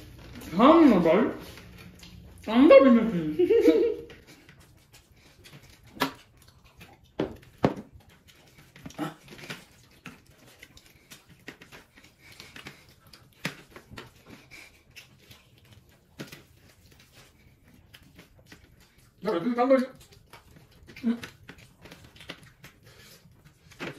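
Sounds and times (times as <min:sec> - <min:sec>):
wet chewing: 0:00.0 - 0:23.9.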